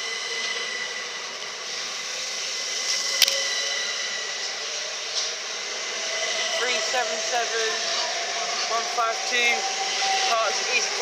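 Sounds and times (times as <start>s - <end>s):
electric train rushing past: 0.0s - 11.0s
high traction motor whine: 0.0s - 11.0s.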